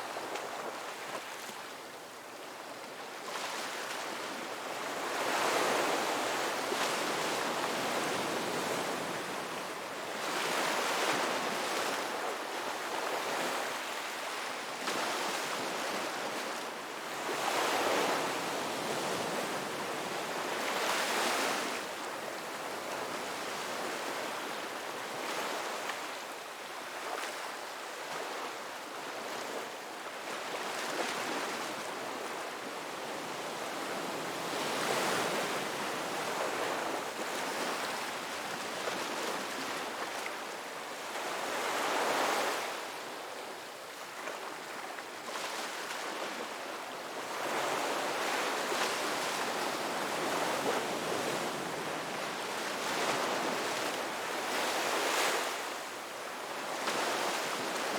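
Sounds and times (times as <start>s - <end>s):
ocean waves breaking on a beach: 0.0s - 57.9s.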